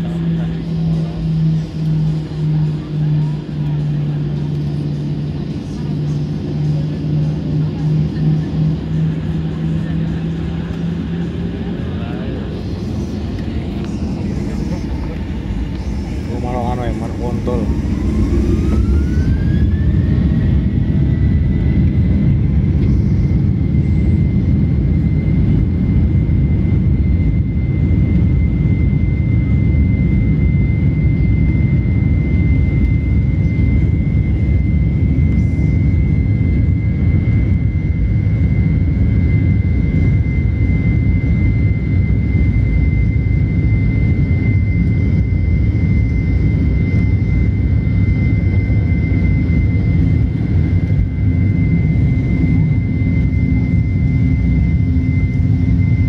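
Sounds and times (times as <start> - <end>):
jet engine rumble and whine: 0.0 - 56.0.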